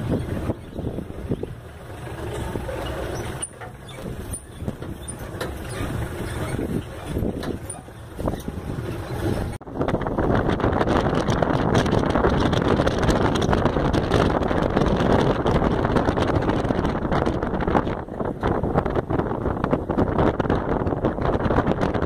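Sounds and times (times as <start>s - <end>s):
jeep engine driving: 0.0s - 21.7s
road noise: 0.0s - 22.0s
wind buffeting microphone: 0.0s - 22.0s.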